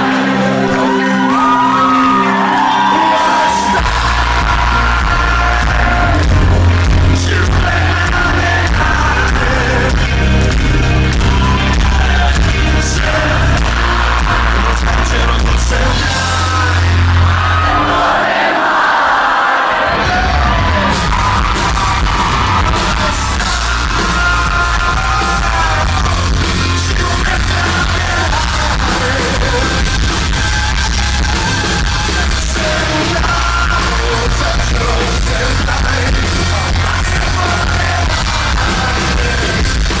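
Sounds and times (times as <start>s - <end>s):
live band music: 0.0s - 40.0s
person singing and yelling: 0.0s - 40.0s.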